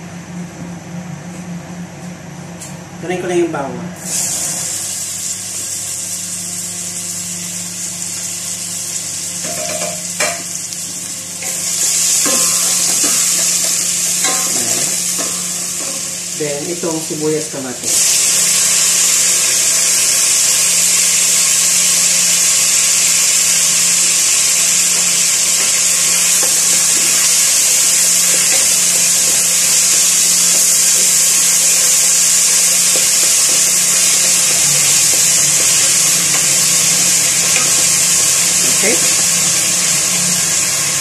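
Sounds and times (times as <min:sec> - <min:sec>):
vegetables sizzling in hot oil: 0:04.1 - 0:41.0.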